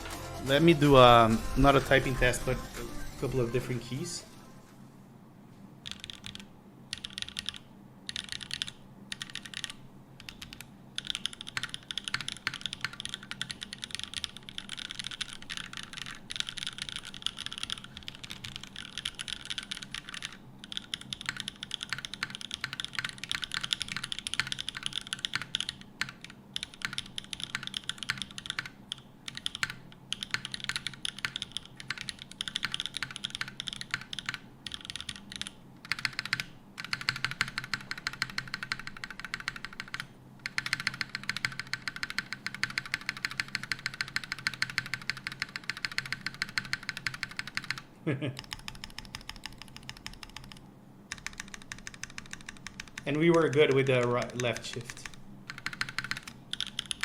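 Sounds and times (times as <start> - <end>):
keyboard keystrokes: 5.8 - 57.0.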